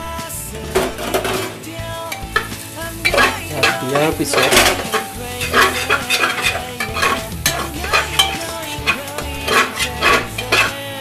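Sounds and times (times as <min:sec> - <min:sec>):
food sizzling: 0:00.0 - 0:11.0
metal spoon scraping pot: 0:00.7 - 0:10.9.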